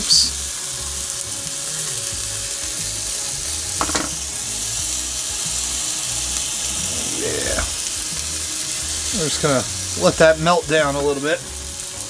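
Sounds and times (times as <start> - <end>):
patties sizzling in oil: 0.0 - 12.0.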